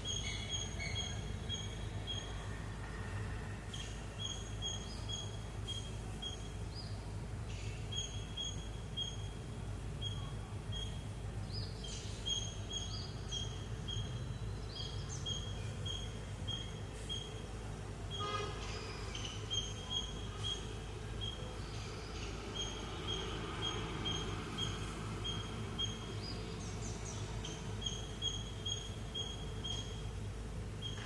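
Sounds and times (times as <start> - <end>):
small bird chirping: 0.0 - 2.4, 3.8 - 9.4, 10.0 - 17.5, 18.1 - 31.0.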